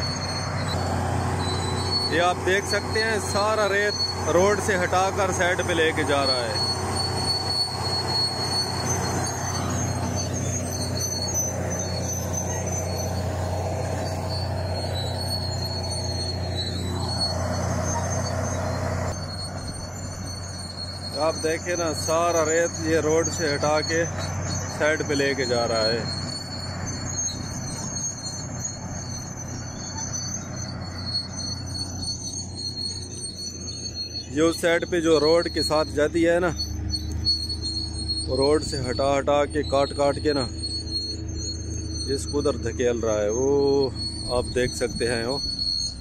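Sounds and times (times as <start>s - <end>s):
bulldozer diesel engine running: 0.0s - 46.0s
faint high squeals: 0.0s - 46.0s
high-pitched whine: 0.0s - 46.0s.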